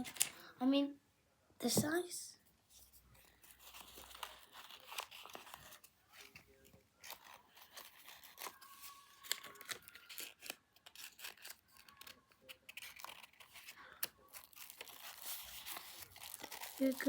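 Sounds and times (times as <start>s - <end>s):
paper rustling and crinkling: 2.8s - 17.0s.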